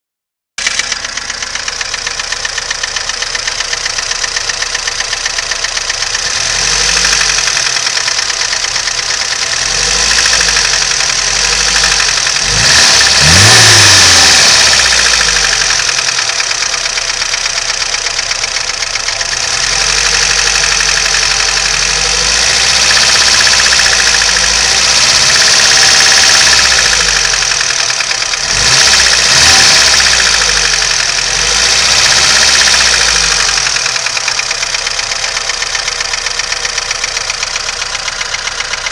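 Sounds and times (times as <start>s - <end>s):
knocking engine revving: 0.6s - 38.9s.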